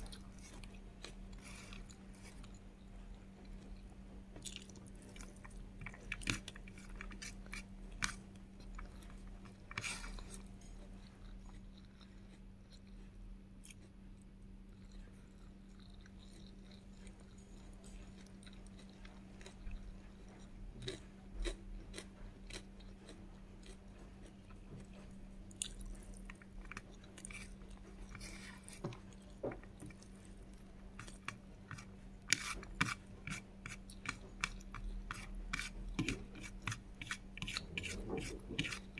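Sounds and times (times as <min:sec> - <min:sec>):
person chewing with wet clicks: 0:00.0 - 0:38.9
steady low hum: 0:00.0 - 0:38.9.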